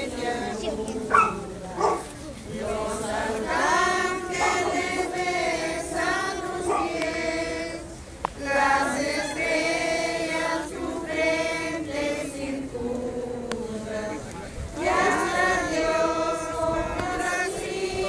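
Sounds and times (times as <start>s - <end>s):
group singing a hymn: 0.0s - 18.0s.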